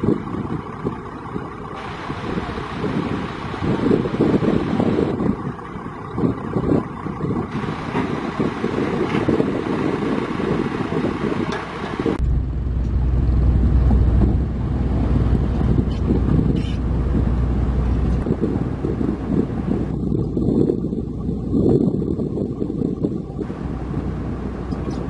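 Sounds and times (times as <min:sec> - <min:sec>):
heavy diesel engine running: 0:00.0 - 0:25.0
wind buffeting microphone: 0:00.0 - 0:25.0.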